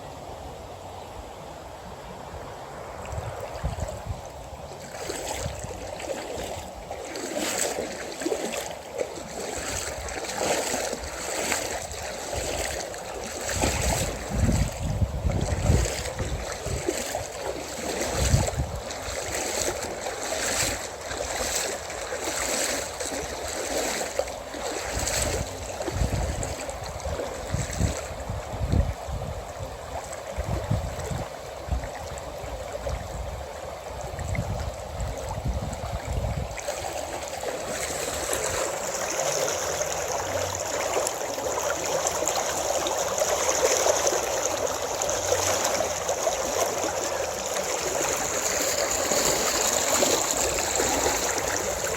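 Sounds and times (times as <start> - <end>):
stream water rushing: 0.0 - 51.9
wind buffeting microphone: 2.4 - 51.9.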